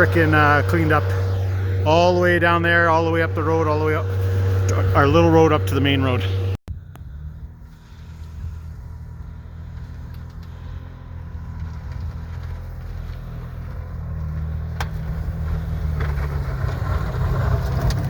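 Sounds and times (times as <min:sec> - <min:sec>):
noisy rush: 0:00.0 - 0:18.0
snow-clearing machine engine: 0:00.0 - 0:18.0.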